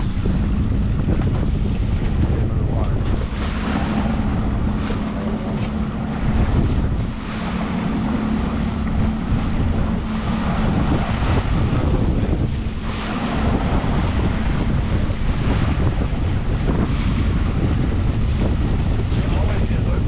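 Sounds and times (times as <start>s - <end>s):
boat wake rushing: 0.0s - 20.0s
outboard motor humming: 0.0s - 20.0s
wind buffeting microphone: 0.0s - 20.0s.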